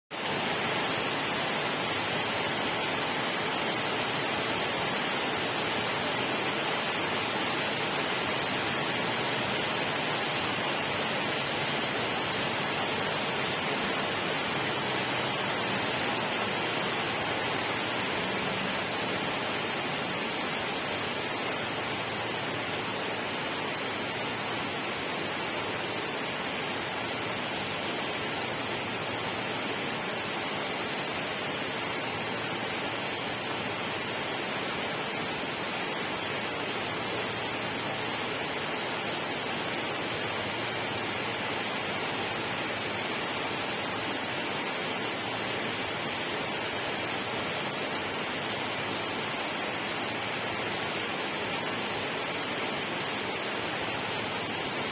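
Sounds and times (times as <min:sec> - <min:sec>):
water rushing: 0:00.2 - 0:54.9.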